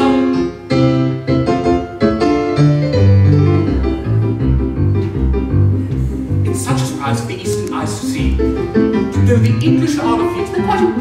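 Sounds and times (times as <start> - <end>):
piano chords and bass line: 0.0 - 11.0.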